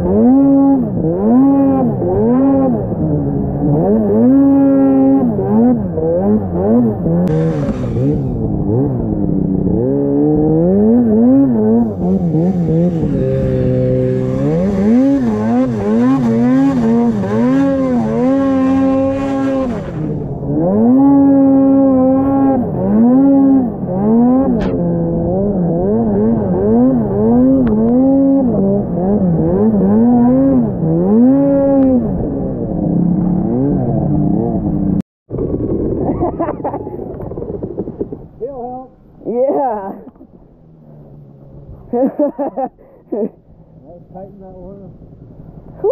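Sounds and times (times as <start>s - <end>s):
snowmobile engine revving: 0.0s - 38.9s, 39.5s - 44.9s.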